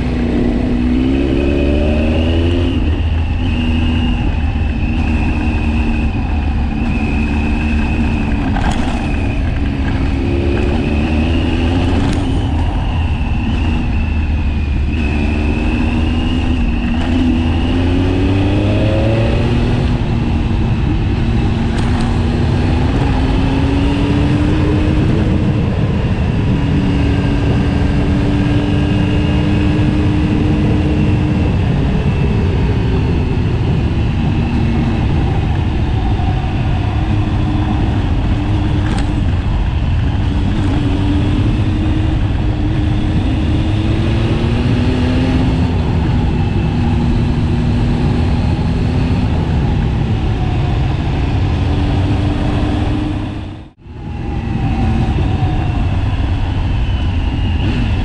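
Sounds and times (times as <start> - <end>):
constant low rumble: 0.0 - 1.3, 2.3 - 58.0
motorcycle engine accelerating: 0.0 - 58.0.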